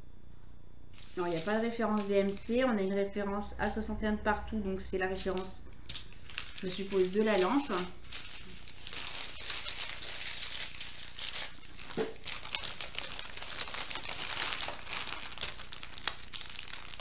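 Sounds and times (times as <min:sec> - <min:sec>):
plastic packaging crinkling: 0:00.9 - 0:03.1, 0:05.0 - 0:17.0.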